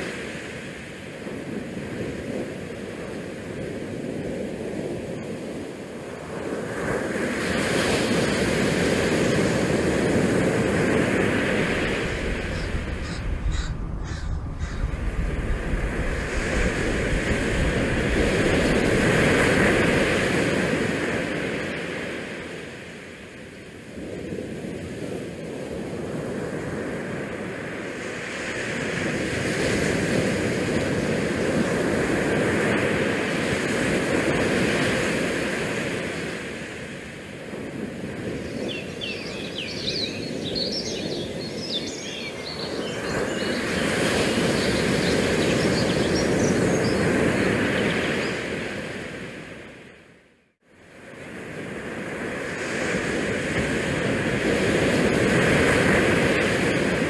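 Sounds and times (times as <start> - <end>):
water on beach: 0.0 - 57.0
wind: 0.0 - 57.0.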